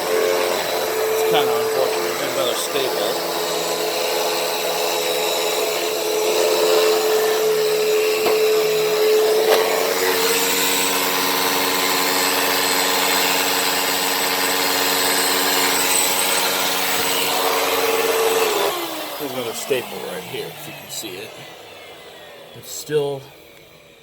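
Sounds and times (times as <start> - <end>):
upright vacuum running on carpet: 0.0 - 24.0.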